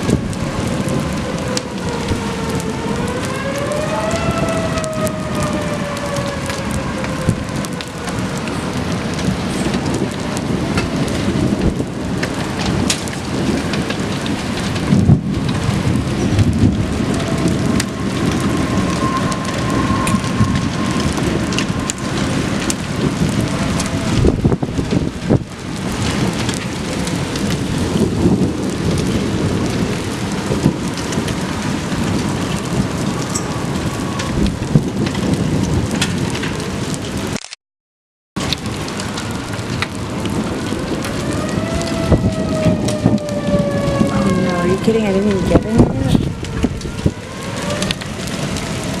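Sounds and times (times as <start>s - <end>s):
distant warning siren: 0.0s - 37.3s, 38.4s - 49.0s
thunder: 0.0s - 37.4s, 38.4s - 49.0s
heavy rain pouring: 0.0s - 37.6s, 38.4s - 49.0s.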